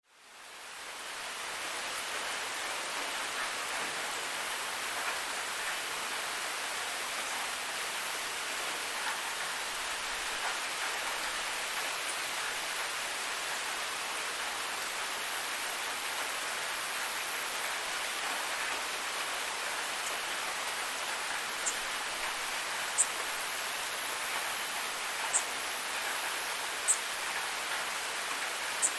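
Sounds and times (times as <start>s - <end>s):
soft rain falling: 0.0s - 28.9s.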